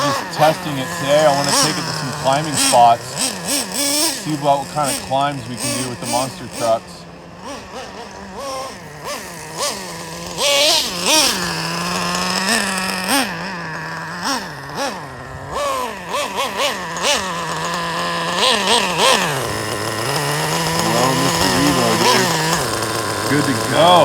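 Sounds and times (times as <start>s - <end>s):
model car engine idling and revving: 0.0s - 24.0s.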